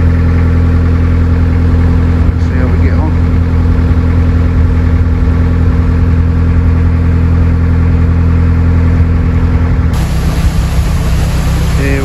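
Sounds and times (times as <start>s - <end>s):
diesel boat engine humming: 0.0s - 12.0s.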